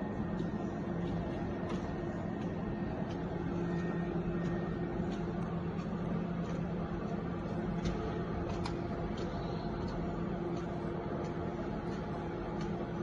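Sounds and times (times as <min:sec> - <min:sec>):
light ticks of moving parts: 0:00.0 - 0:13.0
machine motor humming: 0:00.0 - 0:13.0.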